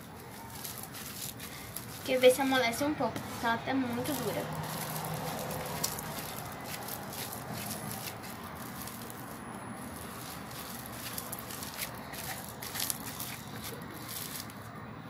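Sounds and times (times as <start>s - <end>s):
foam bead dough crackling: 0.0s - 14.8s.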